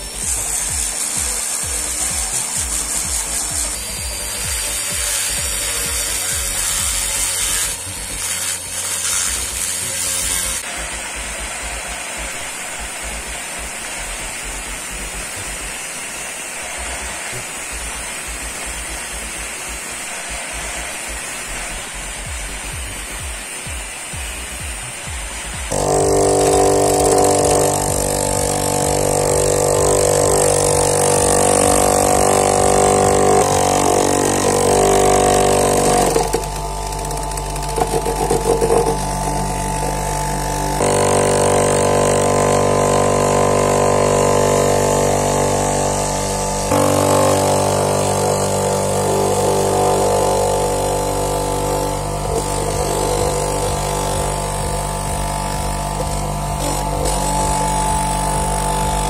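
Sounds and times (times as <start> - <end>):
electric grinder grinding steel: 0.0 - 59.0.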